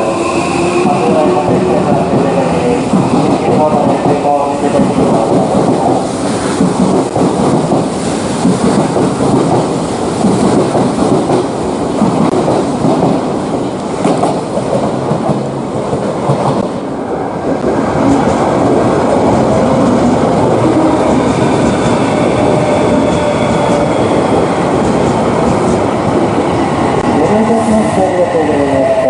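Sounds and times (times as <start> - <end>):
train wheels clacking on rails: 0.0 - 16.8, 17.5 - 29.0.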